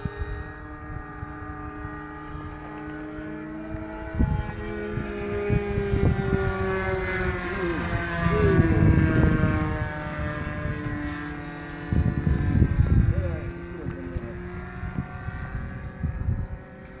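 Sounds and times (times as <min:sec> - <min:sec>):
model airplane engine droning: 0:00.0 - 0:17.0
wind buffeting microphone: 0:00.0 - 0:17.0.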